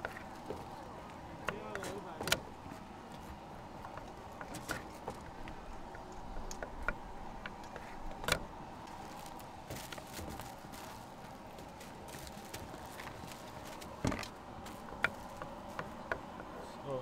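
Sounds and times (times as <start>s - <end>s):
market hum: 0.0s - 17.0s.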